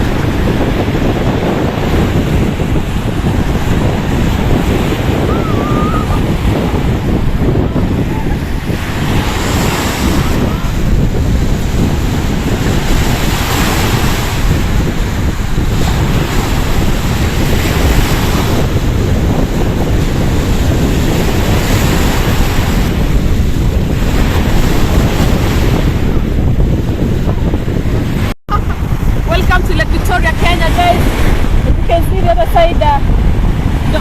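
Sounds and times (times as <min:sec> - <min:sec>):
lake water washing at shore: 0:00.0 - 0:34.0
wind buffeting microphone: 0:00.0 - 0:34.0.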